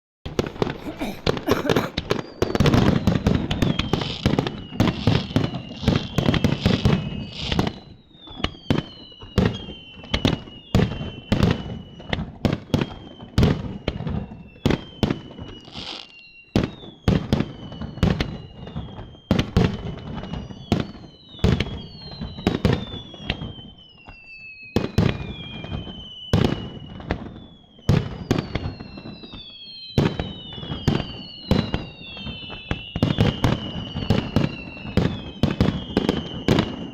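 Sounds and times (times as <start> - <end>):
firework whistles sliding down: 2.5 - 12.2, 12.8 - 36.9.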